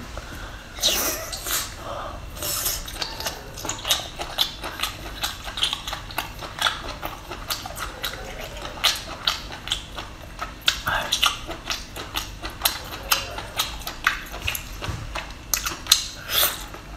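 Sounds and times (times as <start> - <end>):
chewing mouth sounds: 2.4 - 16.9.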